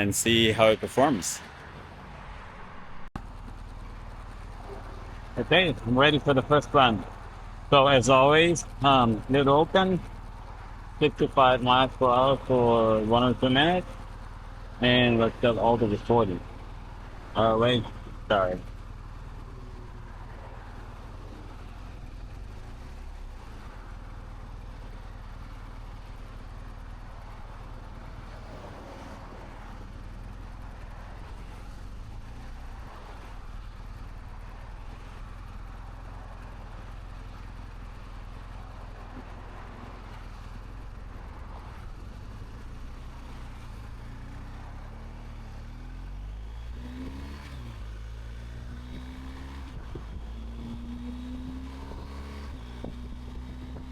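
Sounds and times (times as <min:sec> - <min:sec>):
motorcycle engine running: 0:01.5 - 0:53.9.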